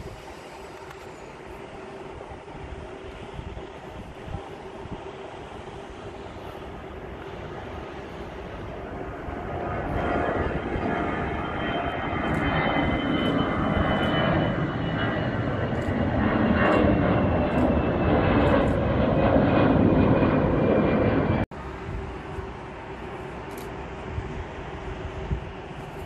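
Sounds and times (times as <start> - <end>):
jet airliner engine noise: 0.0 - 26.0.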